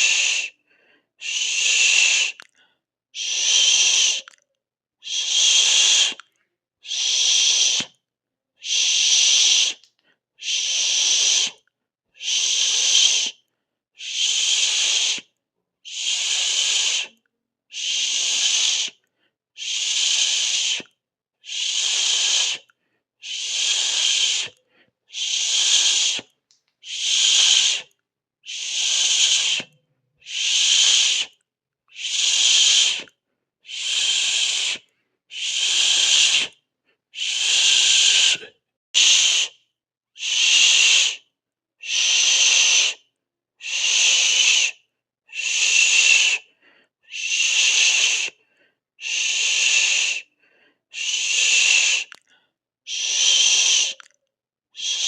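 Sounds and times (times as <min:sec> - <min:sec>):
person hissing through teeth: 0:00.0 - 0:00.6, 0:01.2 - 0:02.5, 0:03.2 - 0:04.4, 0:05.0 - 0:06.2, 0:06.8 - 0:08.0, 0:08.6 - 0:11.6, 0:12.2 - 0:13.4, 0:14.0 - 0:15.3, 0:15.9 - 0:19.0, 0:19.6 - 0:36.6, 0:37.2 - 0:39.6, 0:40.2 - 0:41.2, 0:41.8 - 0:46.5, 0:47.1 - 0:48.4, 0:49.0 - 0:50.3, 0:50.9 - 0:52.2, 0:52.9 - 0:54.2, 0:54.8 - 0:55.0.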